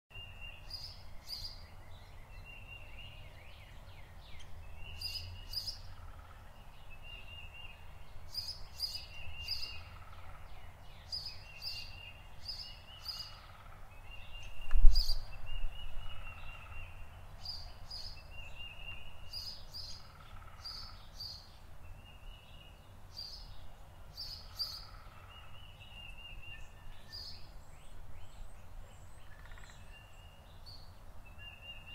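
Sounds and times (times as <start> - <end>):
songbird singing: 0.1 - 31.9.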